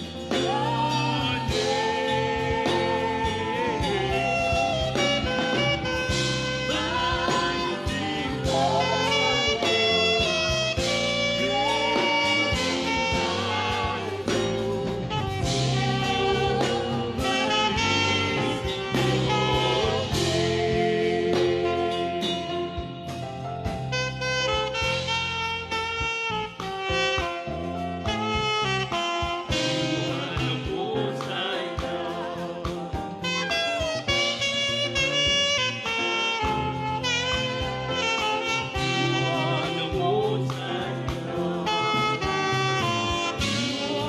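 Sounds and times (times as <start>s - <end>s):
saxophone playing slow melody: 0.0s - 30.9s, 33.2s - 44.0s
backing track with bass: 0.0s - 44.0s.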